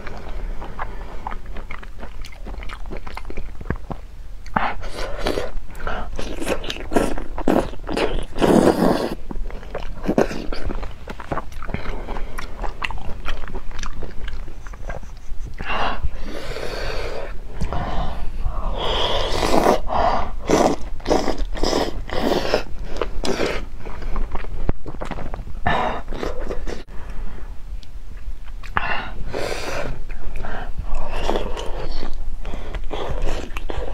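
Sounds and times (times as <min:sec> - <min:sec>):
close chewing and mouth sounds: 0:00.0 - 0:33.9.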